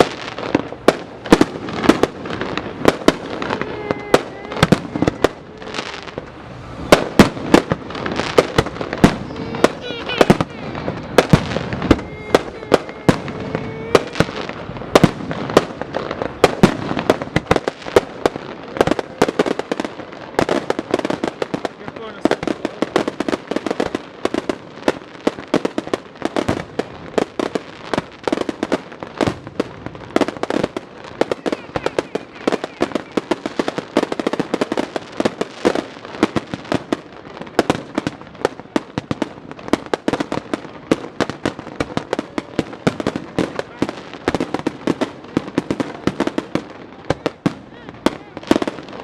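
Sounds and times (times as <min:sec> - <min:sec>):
fireworks popping and crackling: 0:00.0 - 0:49.0.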